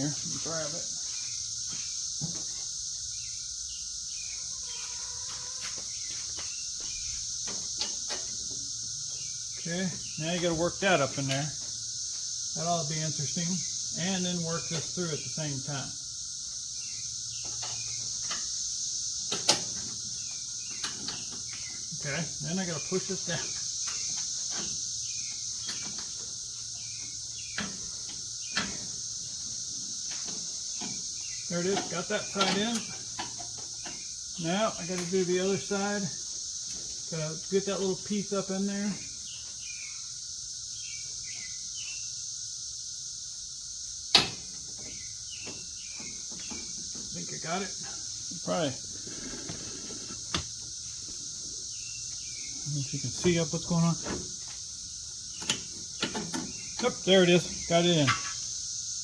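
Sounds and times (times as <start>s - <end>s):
crickets chirring: 0.0s - 59.0s
insects chorus: 0.0s - 59.0s.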